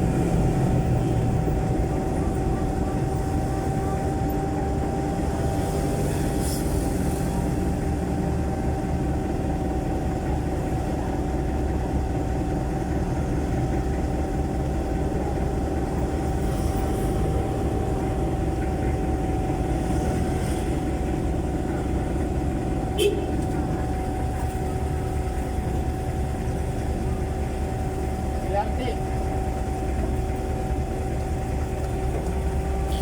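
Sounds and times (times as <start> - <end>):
diesel engine running loudly: 0.0 - 33.0.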